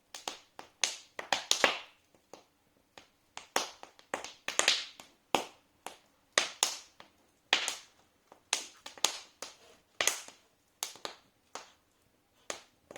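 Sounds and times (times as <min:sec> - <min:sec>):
wood fire crackling: 0:00.1 - 0:12.9.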